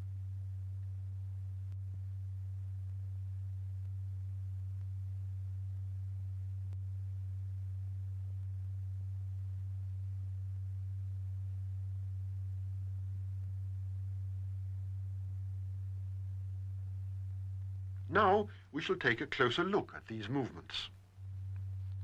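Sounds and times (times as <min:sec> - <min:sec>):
low pure test tone: 0:00.0 - 0:22.0.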